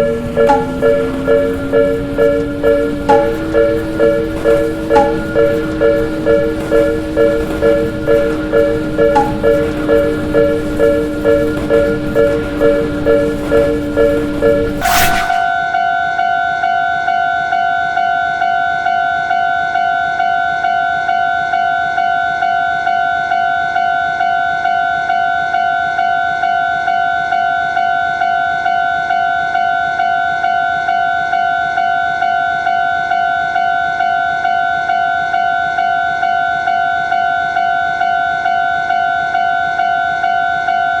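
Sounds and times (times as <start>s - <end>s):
level crossing warning bell: 0.0s - 14.8s, 16.0s - 41.0s.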